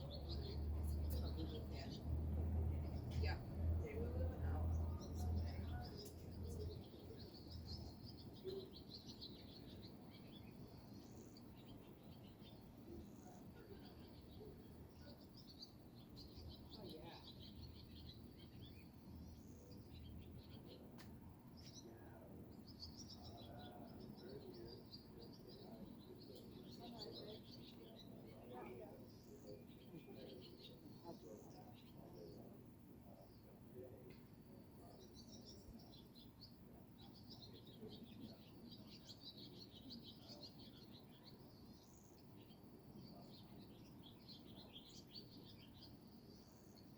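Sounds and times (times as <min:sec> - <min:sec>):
small birds twittering: 0:00.0 - 0:46.9
songbirds chirping: 0:00.0 - 0:46.9.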